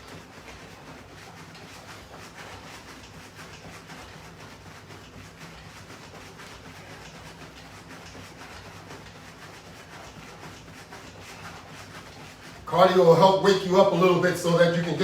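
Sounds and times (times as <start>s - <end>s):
footfalls jogging on floor: 0.0s - 15.0s.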